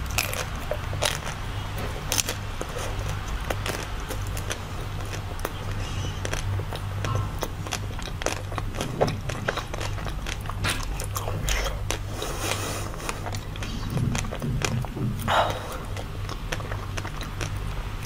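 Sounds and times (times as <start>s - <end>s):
crunchy chewing of ice cream: 0.0s - 18.0s
steady low hum: 0.0s - 18.0s.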